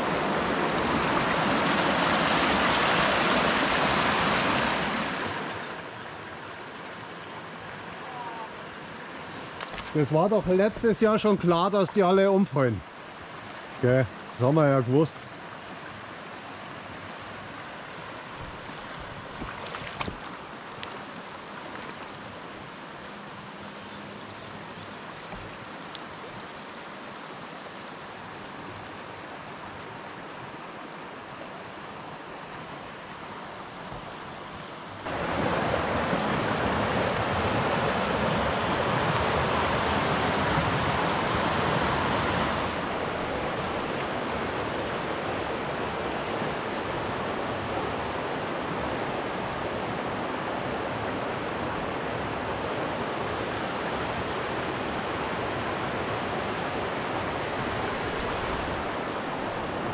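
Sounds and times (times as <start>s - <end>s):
creek rushing over stones: 0.0s - 23.3s, 24.6s - 59.9s.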